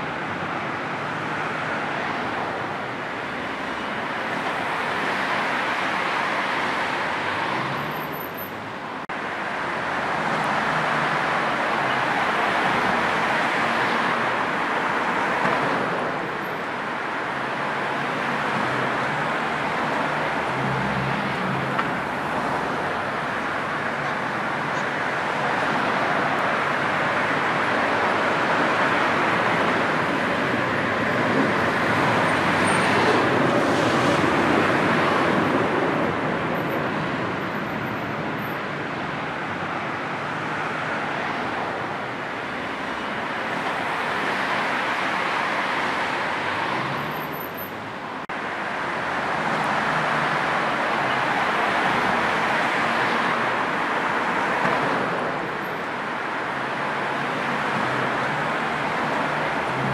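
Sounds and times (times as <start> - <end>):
motorway traffic rushing: 0.0 - 59.9.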